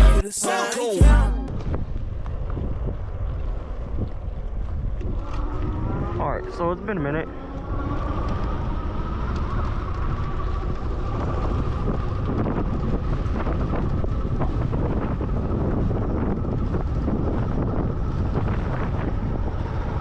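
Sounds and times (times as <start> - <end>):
wind buffeting microphone: 1.5 - 20.0.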